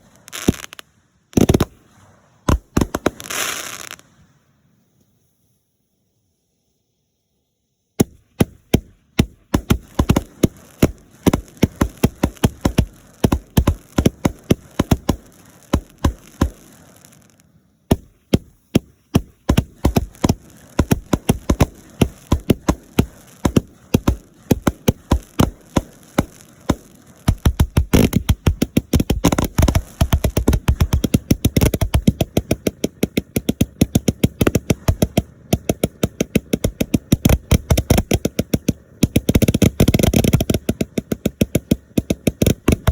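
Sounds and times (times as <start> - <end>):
fireworks bangs and cracks: 0.0 - 4.4, 8.0 - 42.9.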